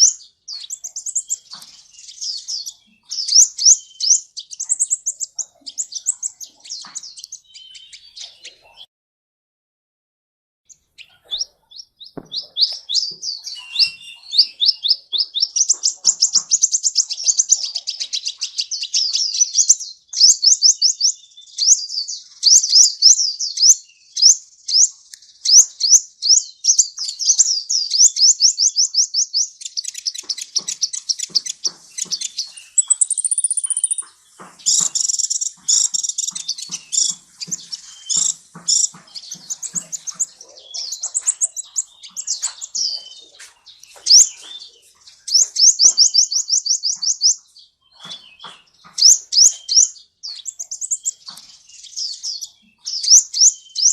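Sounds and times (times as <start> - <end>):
sunbird singing: 0.0 - 8.9, 10.7 - 53.9.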